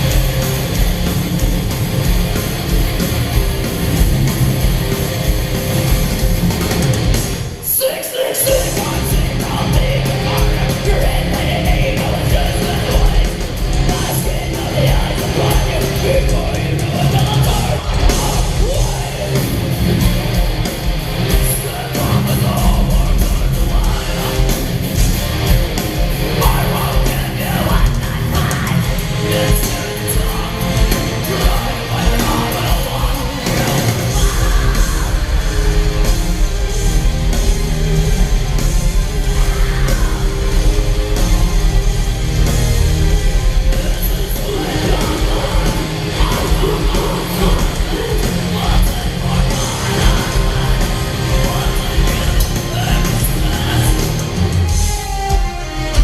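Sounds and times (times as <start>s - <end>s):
harsh yelled vocals: 0.0s - 56.0s
heavy metal band playing: 0.0s - 56.0s.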